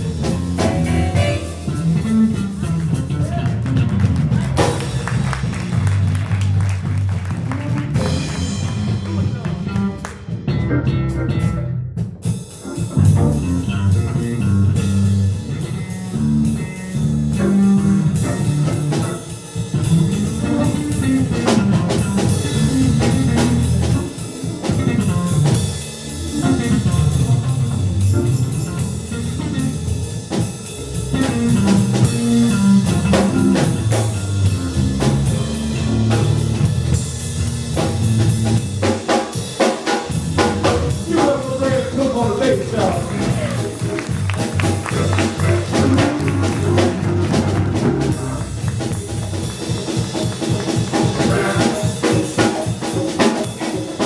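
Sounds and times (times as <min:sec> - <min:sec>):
walking bass line: 0:00.0 - 0:39.0, 0:40.1 - 0:52.5
drum kit: 0:00.0 - 0:54.0
electric guitar: 0:00.0 - 0:54.0.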